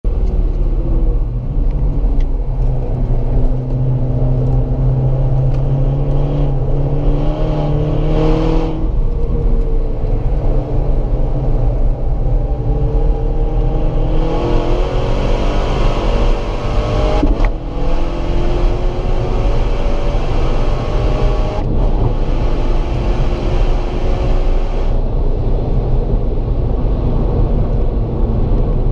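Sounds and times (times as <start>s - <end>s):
low road and tyre rumble: 0.0s - 28.9s.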